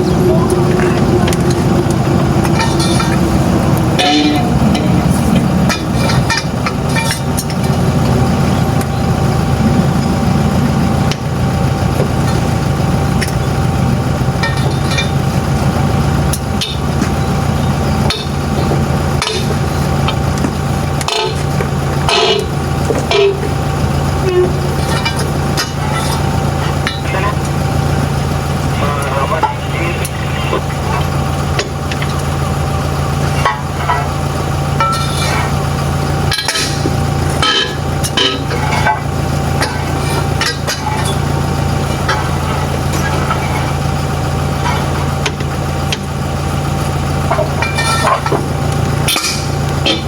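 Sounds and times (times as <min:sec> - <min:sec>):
truck diesel engine idling: 0:00.0 - 0:50.0.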